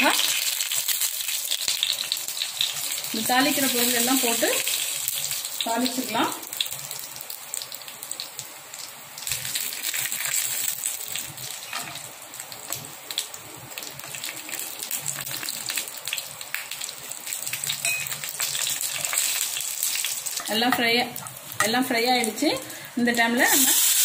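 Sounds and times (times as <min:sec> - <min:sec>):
spices sizzling in hot oil: 0:00.0 - 0:24.0.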